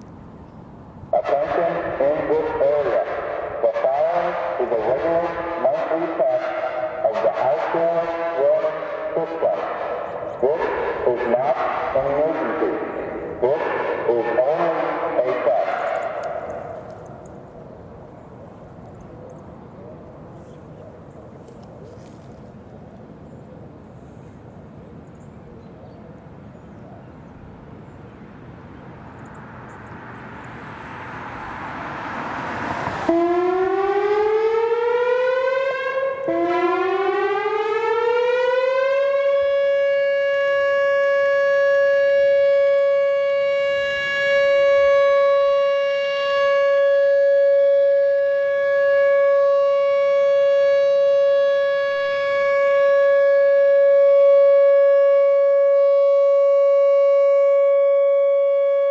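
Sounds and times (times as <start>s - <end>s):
warning siren tone sweeping up: 1.1s - 22.2s, 29.4s - 58.9s.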